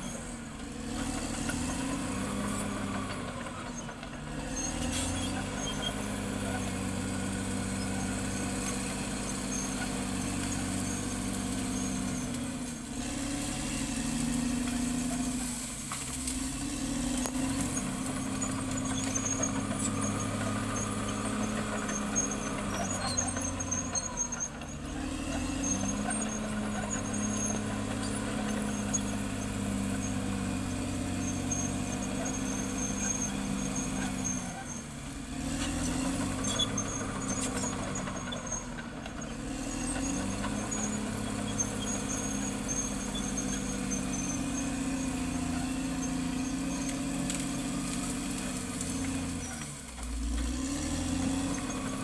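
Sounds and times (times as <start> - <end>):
bulldozer diesel engine: 0.0 - 52.0
steel tracks squeaking and clanking: 0.0 - 52.0.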